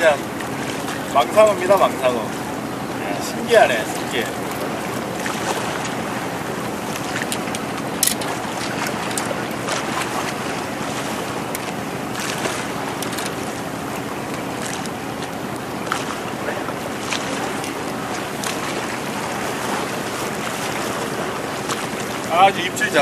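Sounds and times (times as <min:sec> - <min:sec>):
water lapping against rocks: 0:00.0 - 0:23.0.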